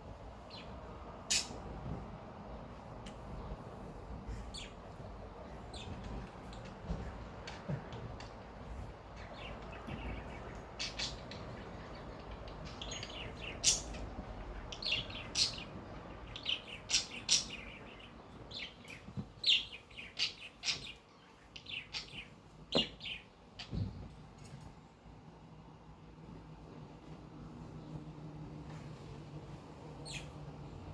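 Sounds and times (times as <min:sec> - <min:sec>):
electric fan whooshing: 0:00.0 - 0:19.9, 0:24.9 - 0:30.9.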